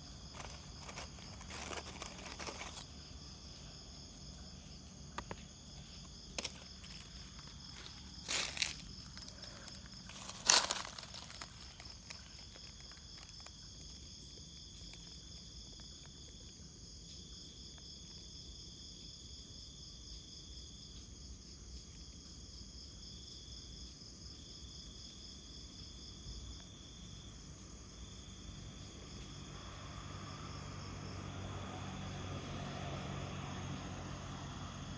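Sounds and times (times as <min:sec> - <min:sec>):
high pulsing insect trill: 0:00.0 - 0:34.9
lower continuous insect trill: 0:00.0 - 0:34.9.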